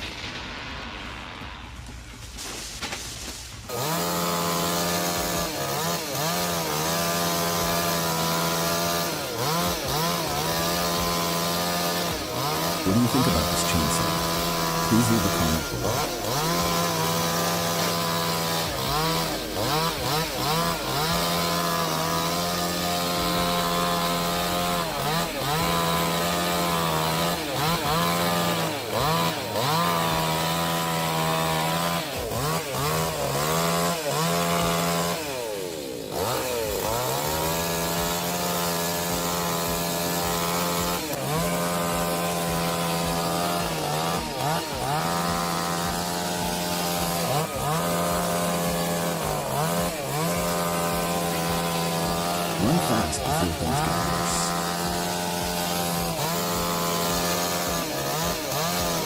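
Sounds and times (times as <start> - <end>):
chainsaw cutting: 1.8 - 59.0.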